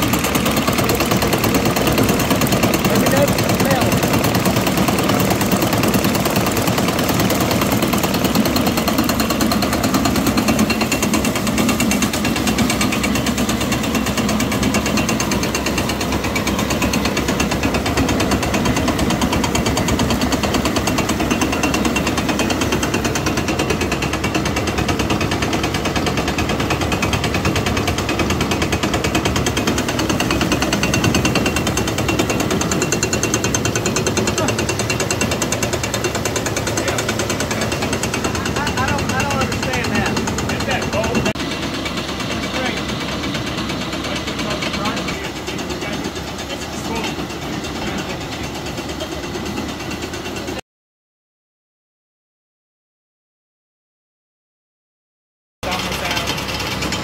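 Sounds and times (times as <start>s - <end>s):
grist mill rattling: 0.0s - 50.5s, 55.6s - 57.0s
tractor engine running: 0.0s - 50.6s, 55.6s - 57.0s.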